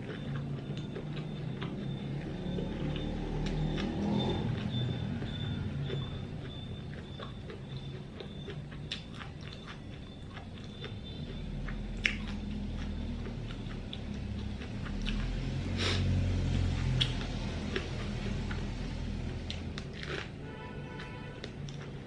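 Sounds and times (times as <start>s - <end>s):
wet chewing clicks and smacks: 0.0s - 15.7s, 16.5s - 20.4s, 21.0s - 22.0s.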